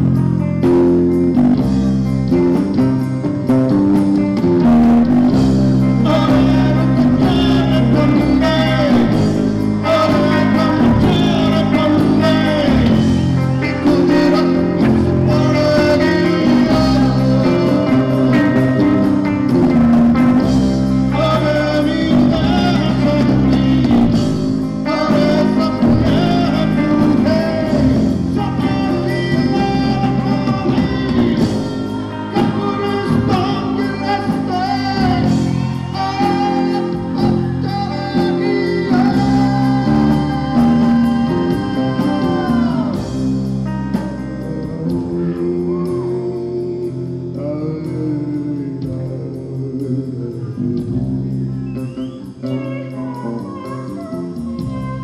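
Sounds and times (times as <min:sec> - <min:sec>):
live folk-rock band: 0:00.0 - 0:55.0
man singing: 0:04.1 - 0:55.0.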